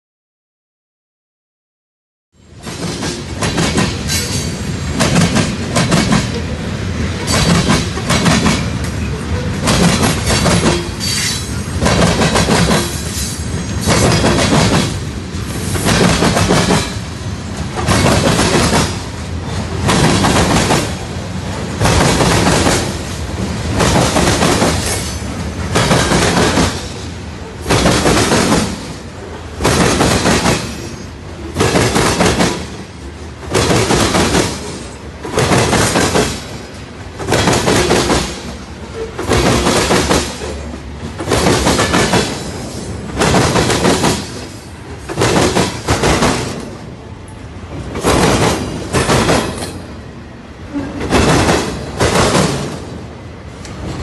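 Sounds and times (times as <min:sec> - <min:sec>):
train wheels clattering over crossing: 0:02.6 - 0:46.8, 0:47.7 - 0:49.9, 0:50.9 - 0:52.9.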